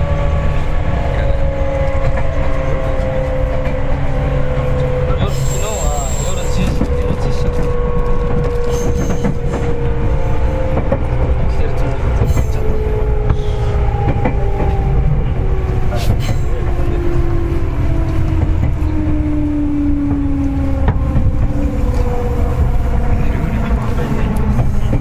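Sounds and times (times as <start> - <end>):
train motor whine: 0.0 - 25.0
train running rumble: 0.0 - 25.0.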